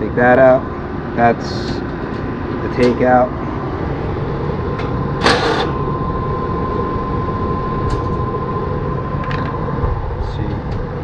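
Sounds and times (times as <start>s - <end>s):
machinery running: 0.0s - 11.0s
thin steady whine: 0.0s - 11.0s.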